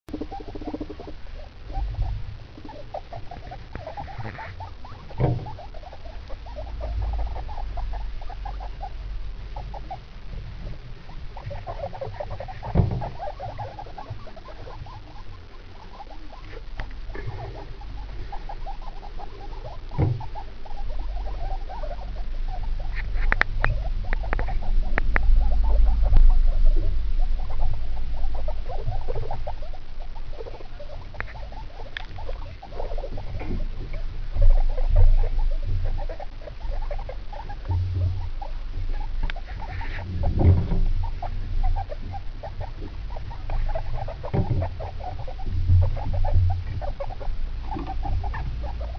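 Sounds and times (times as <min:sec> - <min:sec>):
guinea pigs chattering: 0:00.1 - 0:48.9
rustling in hay and shavings: 0:00.3 - 0:48.9.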